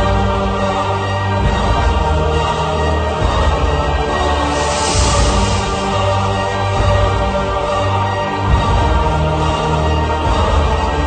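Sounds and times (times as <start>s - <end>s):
orchestral background music: 0.0s - 11.0s.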